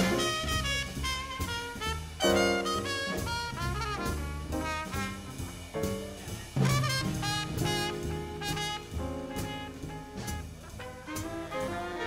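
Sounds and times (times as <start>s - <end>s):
trumpet solo: 0.0s - 5.6s, 6.6s - 12.0s
swing big band playing: 0.0s - 12.0s.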